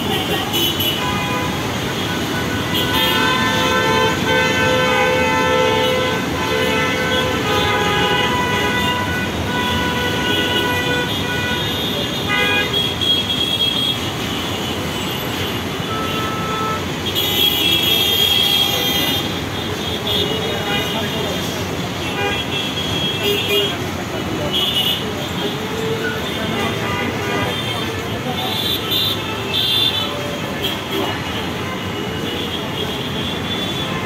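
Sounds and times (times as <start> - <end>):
vehicle horns honking: 0.0 - 21.4, 22.0 - 34.0
engine and road noise: 0.0 - 34.0.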